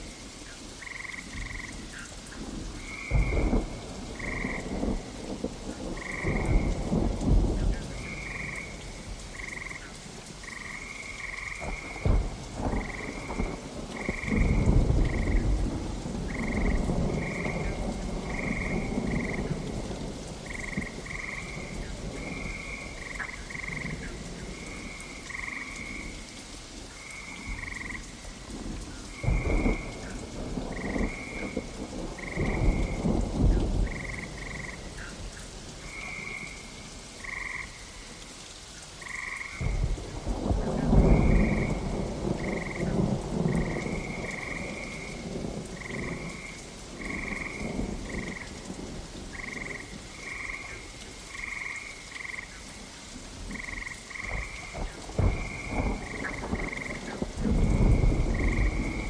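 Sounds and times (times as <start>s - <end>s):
frogs croaking: 0.0s - 59.0s
rain falling: 0.0s - 59.0s
thunder rumbling: 2.4s - 26.3s, 27.0s - 35.2s, 39.6s - 52.5s, 53.4s - 59.0s.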